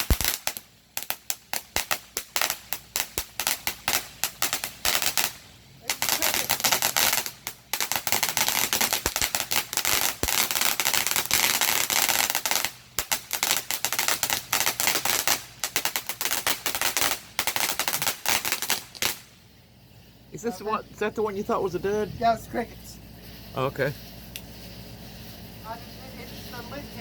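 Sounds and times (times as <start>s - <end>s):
ground firework crackling: 0.0s - 27.0s.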